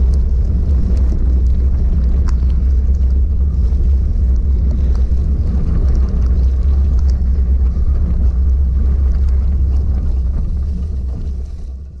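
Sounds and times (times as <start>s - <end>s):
small ticks: 0.0s - 11.2s
tyre noise through mud and gravel: 0.0s - 12.0s
wind buffeting microphone: 0.0s - 12.0s.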